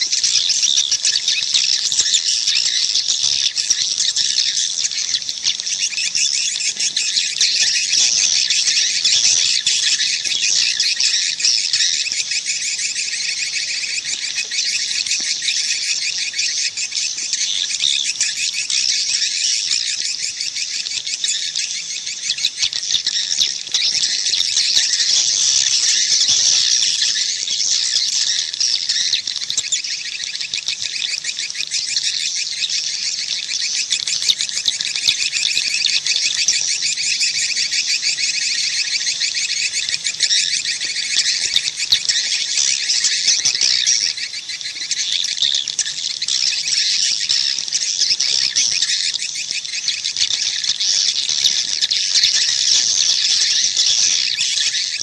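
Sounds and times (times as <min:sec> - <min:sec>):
swiftlets twittering: 0:00.0 - 0:55.0.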